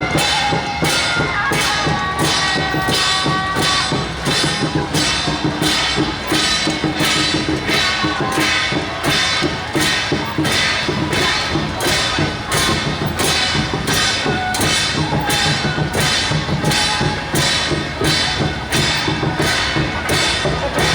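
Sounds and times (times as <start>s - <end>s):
cymbal crashes: 0.0s - 20.9s
drumming: 0.0s - 20.9s
held high melody notes: 0.0s - 20.9s.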